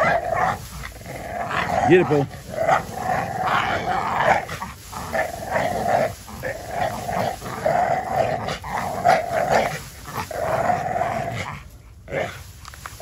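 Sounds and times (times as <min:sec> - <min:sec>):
dog growling: 0:00.0 - 0:12.5.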